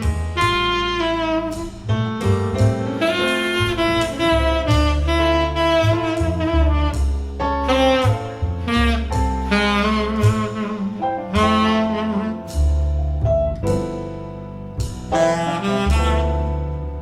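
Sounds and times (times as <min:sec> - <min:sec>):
low bass notes: 0:00.0 - 0:17.0
tenor saxophone jazz ballad: 0:00.0 - 0:17.0.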